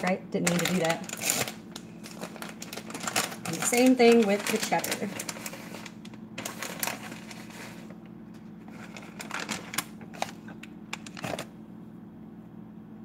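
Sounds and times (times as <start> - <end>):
plastic bag crinkling: 0.0 - 11.5
steady low hum: 0.0 - 13.0.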